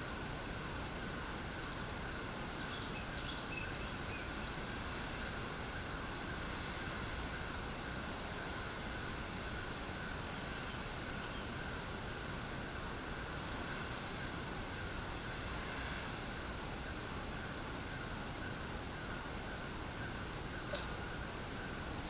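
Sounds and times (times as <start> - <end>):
high-pitched insect trill: 0.0 - 22.0
light rain hiss: 0.0 - 22.0.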